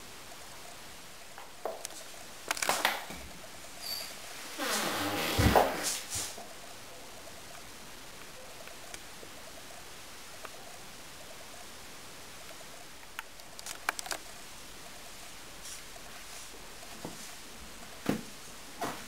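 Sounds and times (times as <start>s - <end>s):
low room tone hiss: 0.0s - 19.0s.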